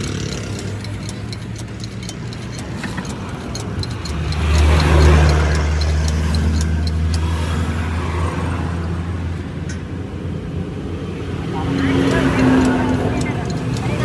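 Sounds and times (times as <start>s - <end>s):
light regular ticking: 0.0s - 10.0s, 11.2s - 14.0s
motor vehicle engine running: 0.0s - 14.0s.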